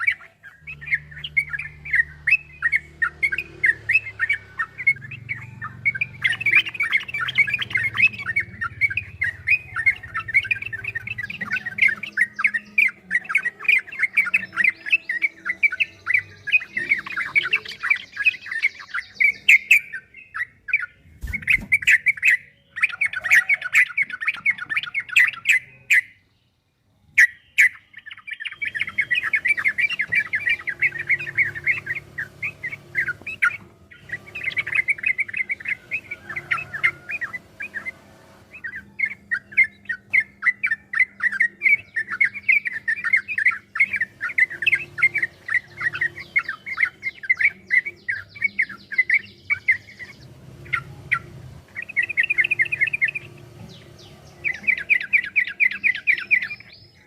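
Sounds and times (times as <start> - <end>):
bird singing chattering notes: 0.0 - 26.4, 27.0 - 57.0.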